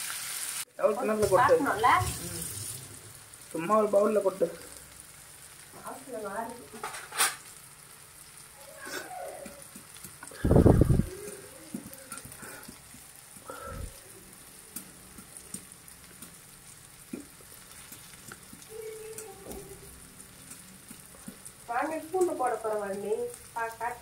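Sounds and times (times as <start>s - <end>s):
food frying in oil: 0.0s - 24.0s
oil popping and crackling: 0.0s - 24.0s.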